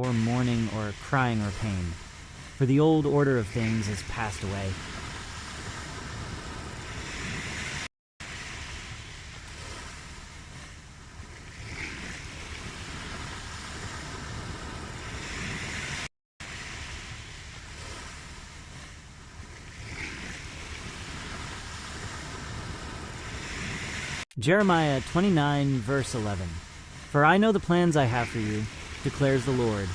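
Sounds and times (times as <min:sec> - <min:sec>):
ocean waves washing: 0:00.0 - 0:29.9.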